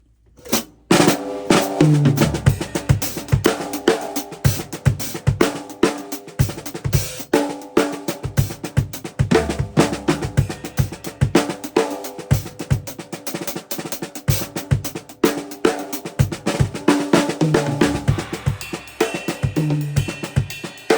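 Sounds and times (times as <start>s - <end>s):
acoustic drum kit playing: 0.4s - 20.9s.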